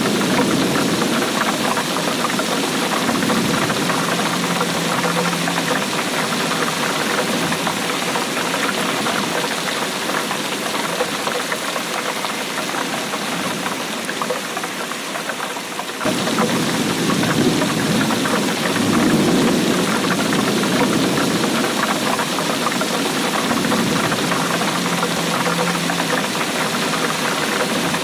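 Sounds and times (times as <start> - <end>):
steady rainfall: 0.0 - 28.0.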